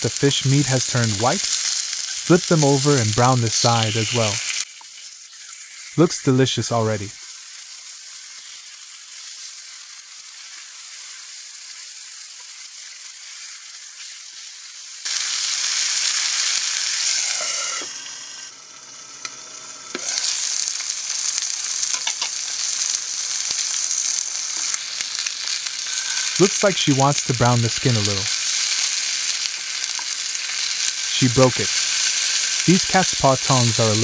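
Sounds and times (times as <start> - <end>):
fish sizzling in frying pan: 0.0 - 34.0.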